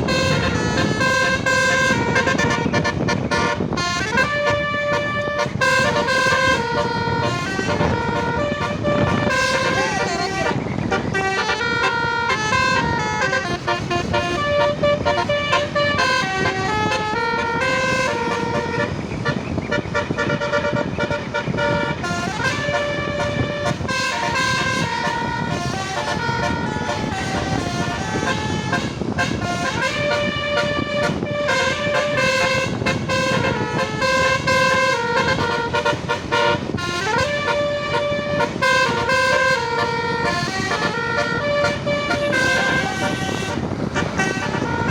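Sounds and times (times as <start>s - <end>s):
bus horns playing melody: 0.0s - 44.9s
bus rumble: 0.0s - 44.9s.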